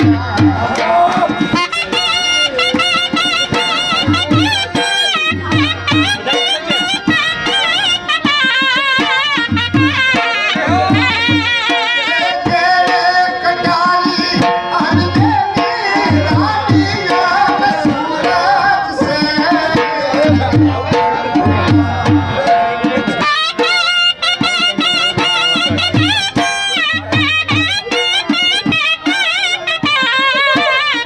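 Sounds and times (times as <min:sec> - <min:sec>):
double-reed pipe melody: 0:00.0 - 0:13.1, 0:14.6 - 0:31.0.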